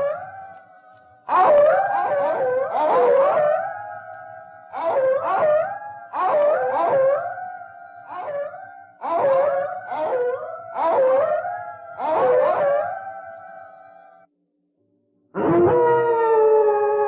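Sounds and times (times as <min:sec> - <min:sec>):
dogs howling: 0:00.0 - 0:14.2.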